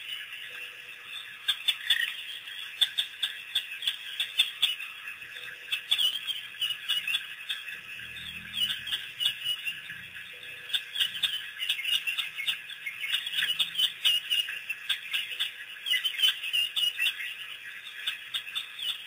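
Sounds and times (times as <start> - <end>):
wild dogs twittering calls: 0.5 - 17.4.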